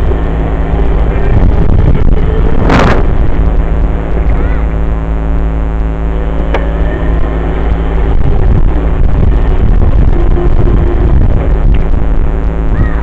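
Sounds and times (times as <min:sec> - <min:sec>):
dirt bike engine running: 0:00.0 - 0:13.0
loud rush: 0:00.0 - 0:13.0
wind rumble on microphone: 0:00.0 - 0:13.0.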